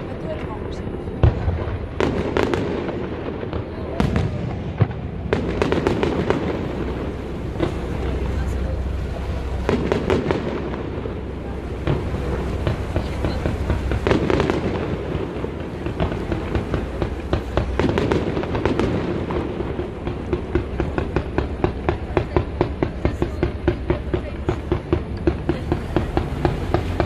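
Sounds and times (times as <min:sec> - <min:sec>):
fireworks bangs and crackles: 0:00.0 - 0:27.0
low rumble: 0:00.0 - 0:27.0.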